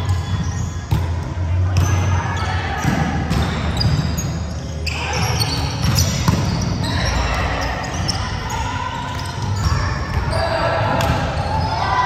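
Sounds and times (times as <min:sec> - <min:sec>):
players' voices: 0:00.0 - 0:12.0
sneakers squeaking: 0:00.0 - 0:12.0.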